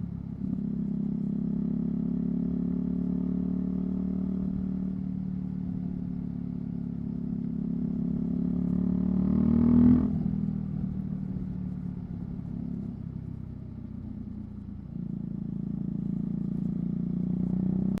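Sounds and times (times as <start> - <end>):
motorcycle engine revving: 0.0 - 13.3, 14.1 - 18.0.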